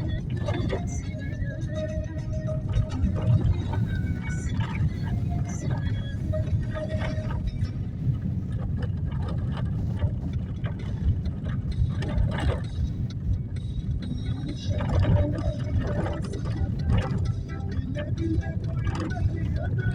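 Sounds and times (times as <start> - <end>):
heavy low rumble: 0.0 - 19.9.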